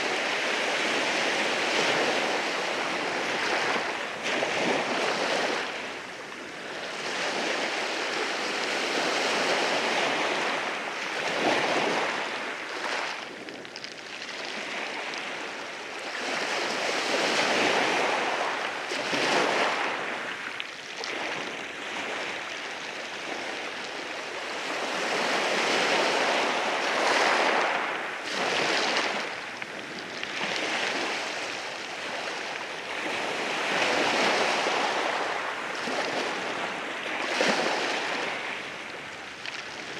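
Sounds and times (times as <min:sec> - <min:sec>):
sea waves over rocks: 0:00.0 - 0:39.9.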